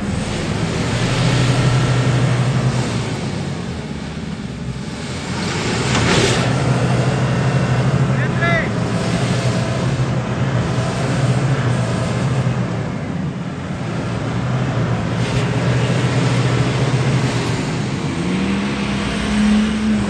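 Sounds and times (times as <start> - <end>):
engine working under load: 0.0 - 20.0.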